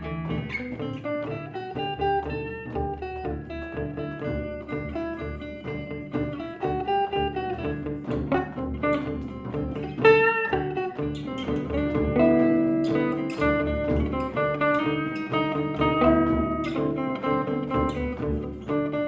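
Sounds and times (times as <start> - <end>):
plucked string instrument music: 0.0 - 19.0.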